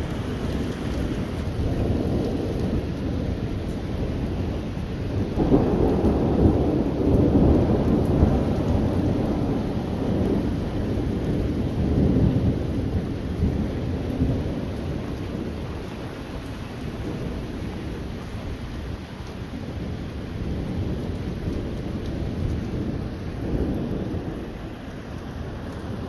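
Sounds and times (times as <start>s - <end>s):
rolling thunder: 0.0s - 26.0s.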